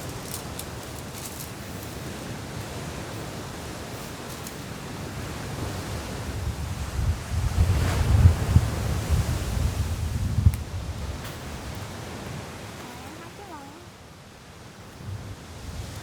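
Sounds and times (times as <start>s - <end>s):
wind buffeting microphone: 0.0s - 13.6s, 15.0s - 16.0s.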